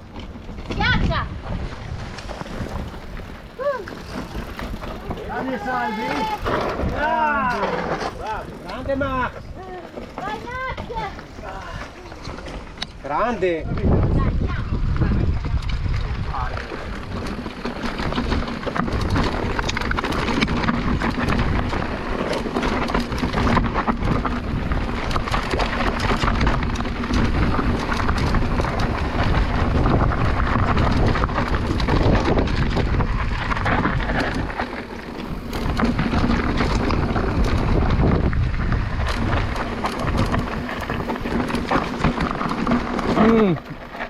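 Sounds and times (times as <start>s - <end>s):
wind on microphone: 0.0s - 7.5s, 12.2s - 43.9s
bike clattering: 0.0s - 44.0s
bike tyres rattling over stones: 0.0s - 44.0s.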